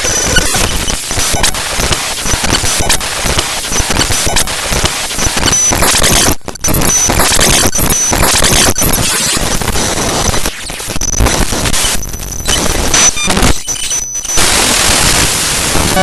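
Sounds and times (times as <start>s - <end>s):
short high-pitched beeps: 0.0s - 11.2s, 11.8s - 14.6s, 15.6s - 16.0s
harsh noise with clicks and crackle: 0.0s - 16.0s.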